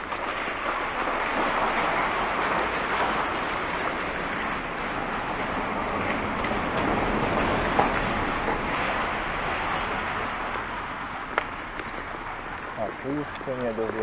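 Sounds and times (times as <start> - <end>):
bicycle tyres on wet pavement: 0.0 - 14.0.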